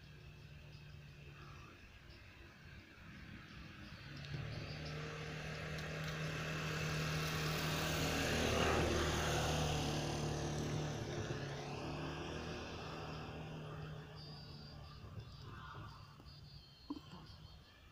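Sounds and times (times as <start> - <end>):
passing vehicle engine hum: 0.0 - 17.9.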